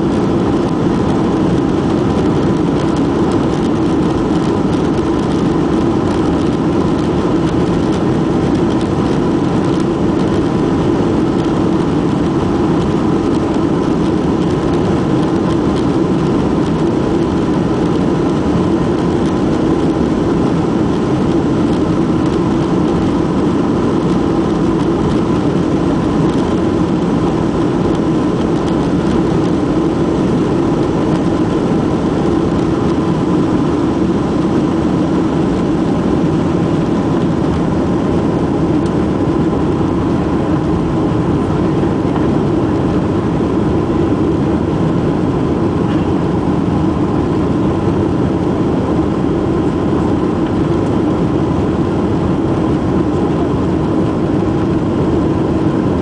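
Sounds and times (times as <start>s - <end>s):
jet engines at takeoff thrust: 0.0s - 56.0s.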